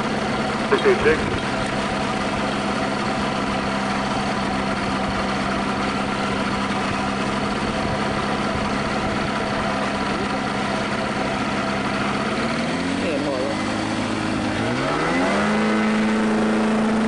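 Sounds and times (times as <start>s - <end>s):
light aircraft engine humming: 0.0s - 17.0s.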